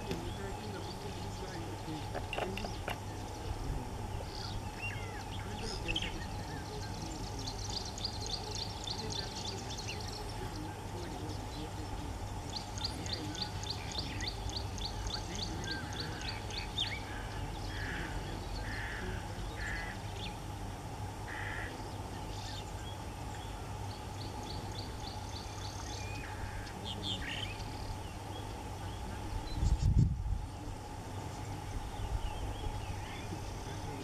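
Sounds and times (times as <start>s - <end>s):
birds calling: 0.0s - 34.0s
low background rumble: 0.0s - 34.0s.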